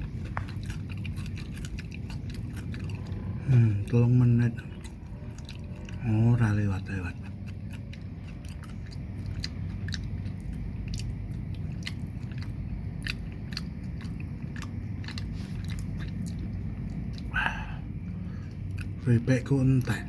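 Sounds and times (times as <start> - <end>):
chewing crunchy chips: 0.0 - 20.0
low background rumble: 0.0 - 20.0.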